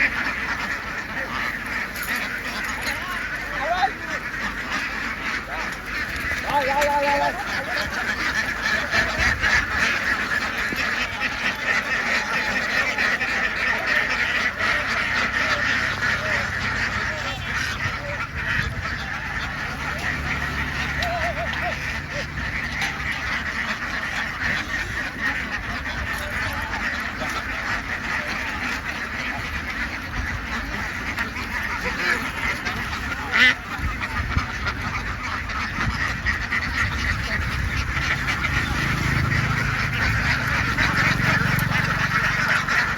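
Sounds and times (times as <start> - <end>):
flock of ducks quacking: 0.0 - 42.9.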